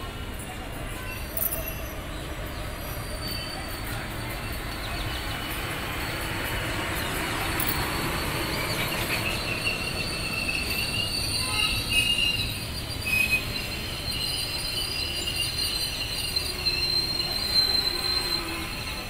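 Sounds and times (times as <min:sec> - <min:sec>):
high wheel squeal: 0:00.0 - 0:19.0
train wheels rumbling on track: 0:00.0 - 0:19.0.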